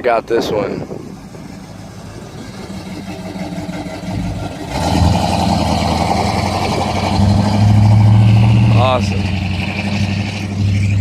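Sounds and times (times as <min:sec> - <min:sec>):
car engine accelerating: 0:00.8 - 0:11.0.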